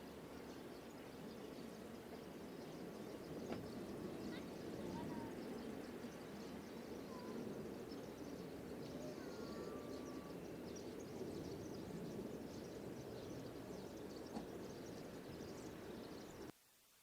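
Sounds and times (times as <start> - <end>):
faint outdoor rumble: 0.0 - 16.5.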